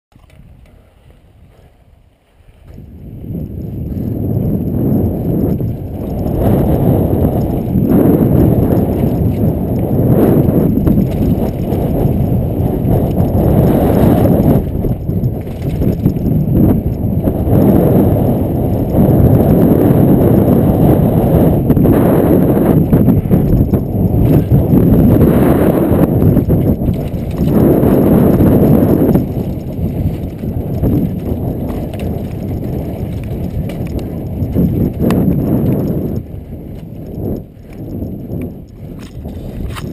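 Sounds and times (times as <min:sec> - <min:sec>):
bike rattling over bumps: 0:00.1 - 0:39.9
wind on microphone: 0:00.1 - 0:39.9
tyres rumbling on dirt: 0:03.8 - 0:38.3.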